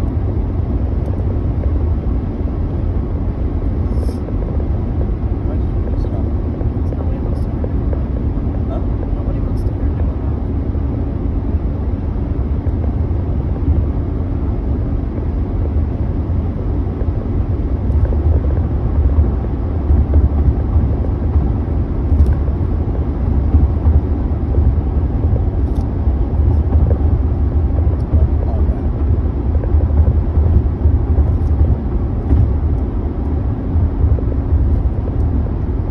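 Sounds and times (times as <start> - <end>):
car engine and road noise: 0.0 - 35.9.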